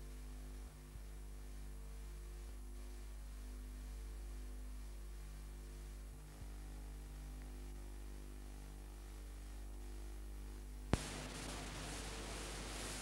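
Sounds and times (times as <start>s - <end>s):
low electrical hum: 0.0s - 13.0s
tape hiss: 0.0s - 13.0s.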